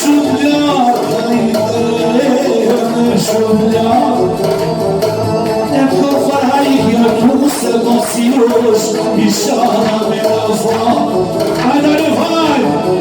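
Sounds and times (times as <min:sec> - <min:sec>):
folk pop band music: 0:00.0 - 0:13.0
person singing: 0:00.0 - 0:13.0.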